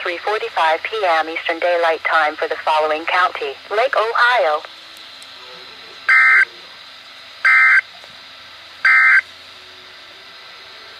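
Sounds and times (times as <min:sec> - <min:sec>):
steady radio hiss: 0:00.0 - 0:10.9.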